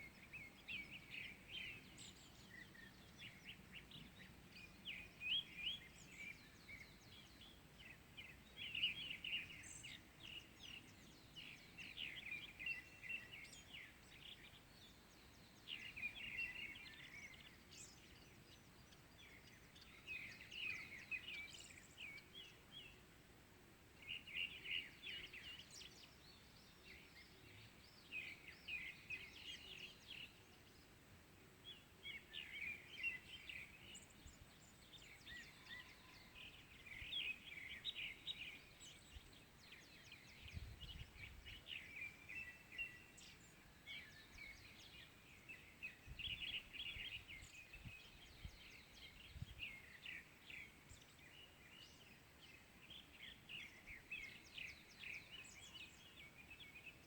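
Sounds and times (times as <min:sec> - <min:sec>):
faint outdoor background noise: 0:00.0 - 0:57.0
songbird chirping: 0:00.0 - 0:57.0.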